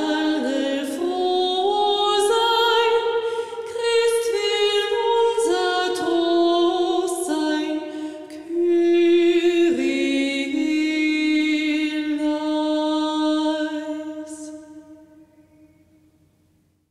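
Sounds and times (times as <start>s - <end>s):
woman singing a hymn: 0.0s - 15.2s.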